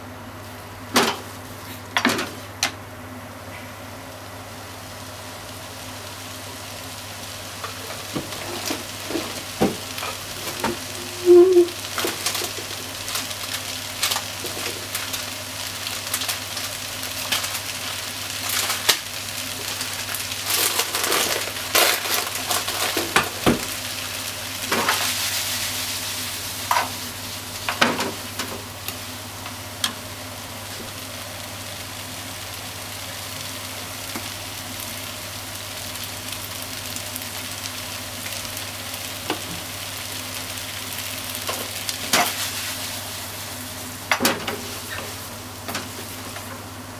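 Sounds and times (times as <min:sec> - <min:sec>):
food sizzling in a frying pan: 0:00.0 - 0:46.9.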